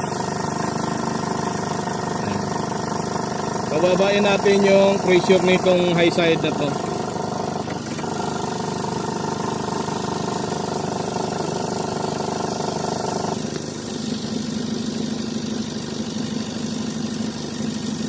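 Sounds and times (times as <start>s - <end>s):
air-conditioning compressor whine: 0.0s - 18.0s
car engine running: 0.0s - 18.0s.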